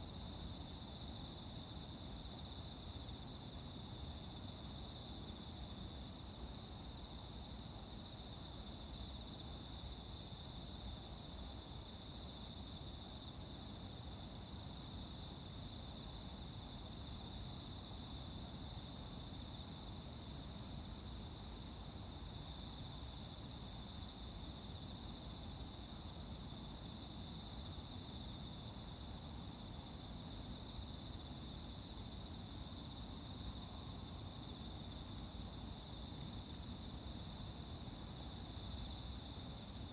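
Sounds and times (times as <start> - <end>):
faint pulsing insect chirp: 0.0 - 39.9.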